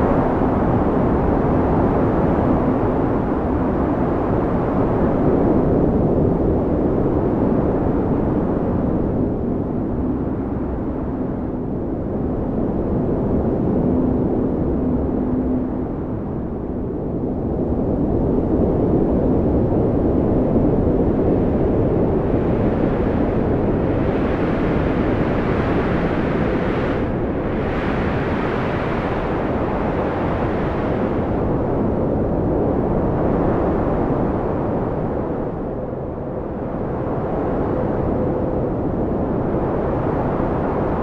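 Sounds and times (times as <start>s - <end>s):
strong wind blowing: 0.0s - 41.0s.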